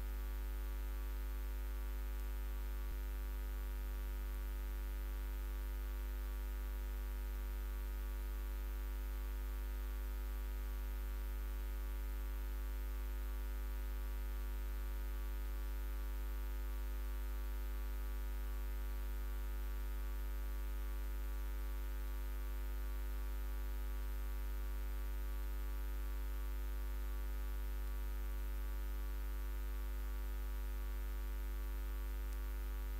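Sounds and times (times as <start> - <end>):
electrical mains hum: 0.0 - 32.9.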